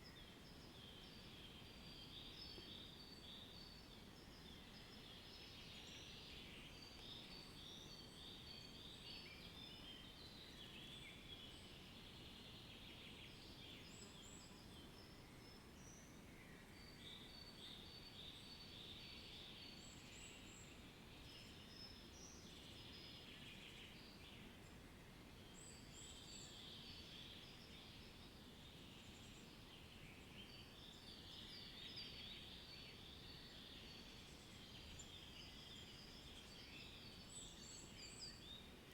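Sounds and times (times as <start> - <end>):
low steady background hiss: 0.0 - 38.9.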